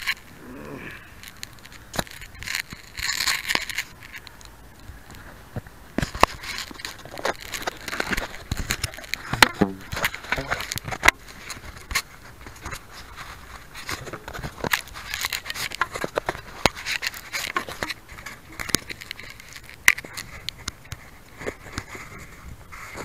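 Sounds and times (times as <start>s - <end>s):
handling clicks and taps on microphone: 1.2s - 23.0s.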